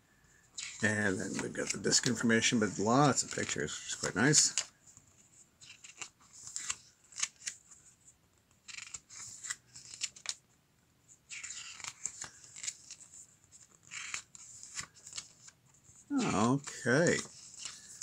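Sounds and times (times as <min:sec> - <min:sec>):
paper pages turning: 0:00.6 - 0:10.4, 0:11.1 - 0:18.0.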